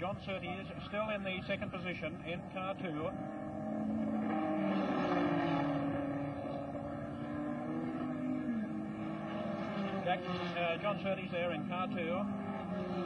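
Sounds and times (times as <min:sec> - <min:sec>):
racing car engine passing by: 0:00.0 - 0:13.0.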